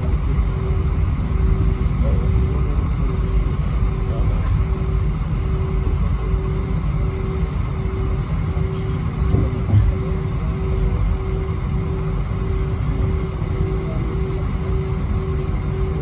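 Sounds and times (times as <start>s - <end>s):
aircraft cabin rumble: 0.0s - 16.0s
faint pulsing hum: 0.0s - 16.0s.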